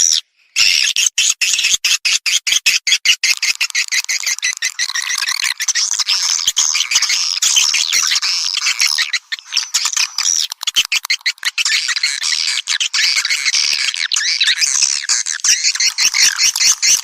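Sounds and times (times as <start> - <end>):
swiftlets twittering and chirping: 0.0 - 17.0.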